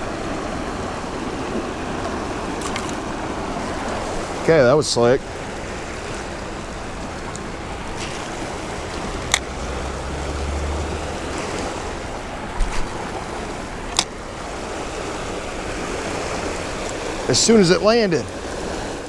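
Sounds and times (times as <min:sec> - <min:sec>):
water rushing in creek: 0:00.0 - 0:19.0.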